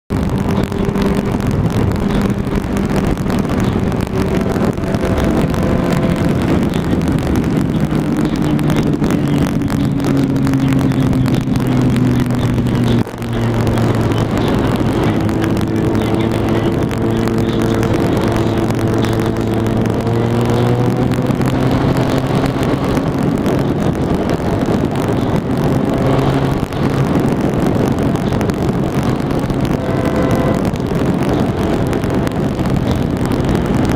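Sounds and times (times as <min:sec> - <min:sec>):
motorbike engine running: 0:00.1 - 0:33.9
wind rush: 0:00.1 - 0:33.9.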